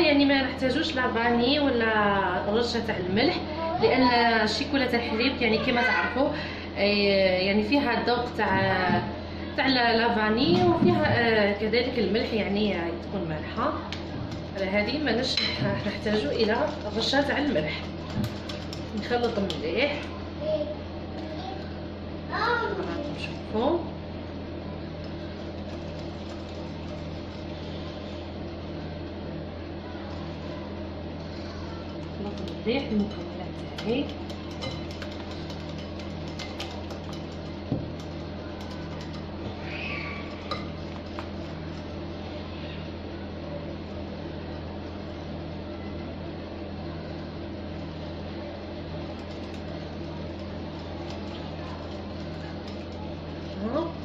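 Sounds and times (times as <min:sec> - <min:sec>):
electric mixer humming: 0:07.4 - 0:54.0.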